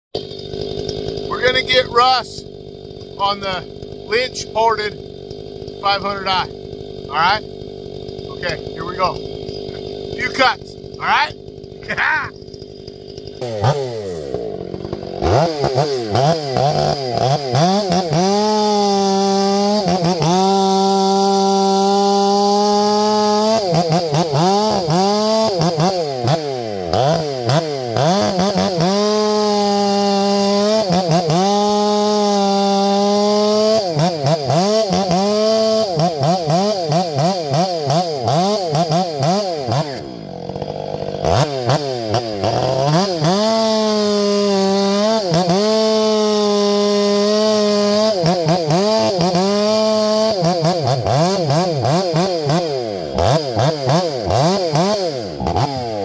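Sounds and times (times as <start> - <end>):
chainsaw cutting wood: 0.2 - 56.0.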